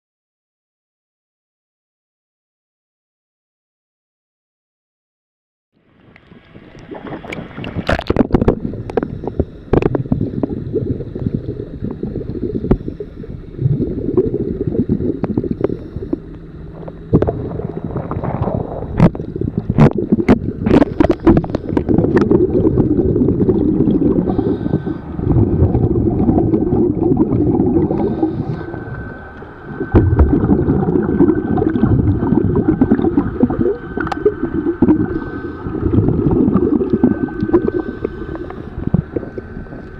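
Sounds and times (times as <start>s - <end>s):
faint steady whine: 5.8s - 39.9s
underwater bubbles gurgling: 5.9s - 39.9s.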